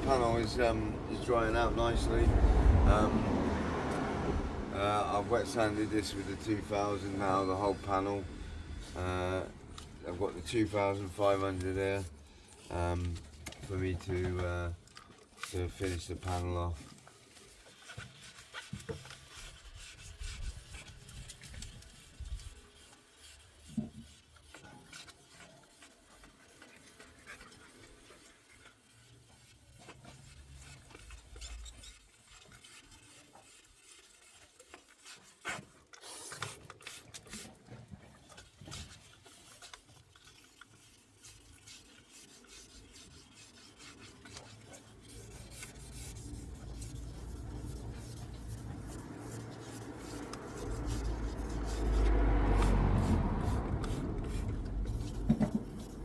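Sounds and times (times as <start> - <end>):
sandpaper wet-sanding paintwork: 0.0 - 37.6, 38.4 - 56.0.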